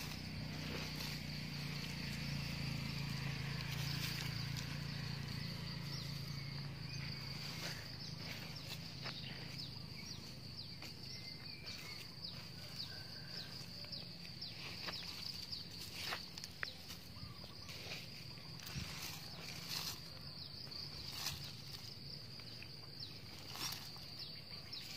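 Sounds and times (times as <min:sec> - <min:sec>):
hands working soil: 0:00.0 - 0:24.9
insects chirring: 0:00.0 - 0:24.9.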